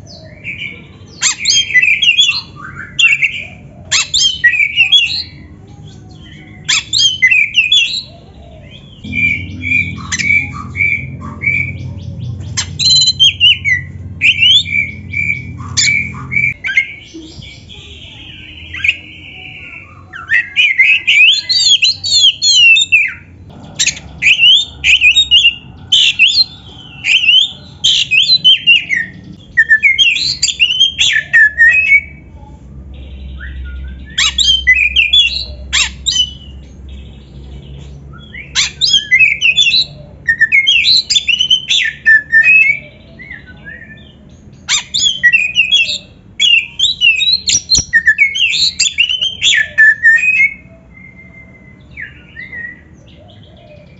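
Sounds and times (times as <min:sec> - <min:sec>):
songbird whistling: 0:00.0 - 0:05.5, 0:06.2 - 0:32.4, 0:33.0 - 0:36.6, 0:37.7 - 0:53.9.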